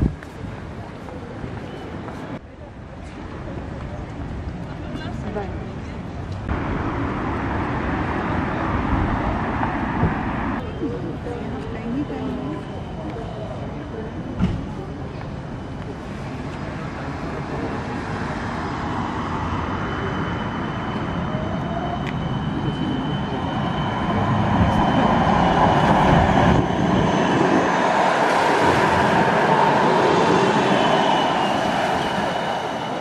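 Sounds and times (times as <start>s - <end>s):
tram wheels rumbling on rails: 6.4s - 33.0s.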